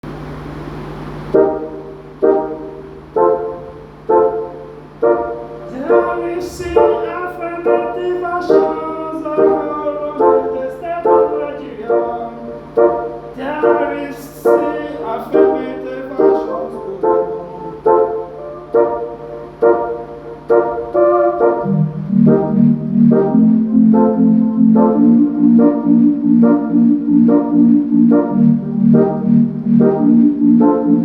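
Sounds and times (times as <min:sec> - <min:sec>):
instrumental soundtrack music: 0:01.3 - 0:31.0.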